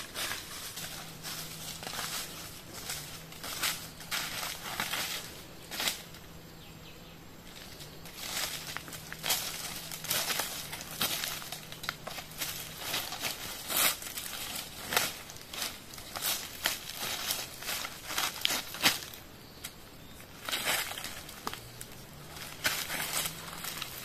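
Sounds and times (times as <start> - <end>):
footsteps crunching dry leaves: 0.0 - 6.5, 7.4 - 24.0.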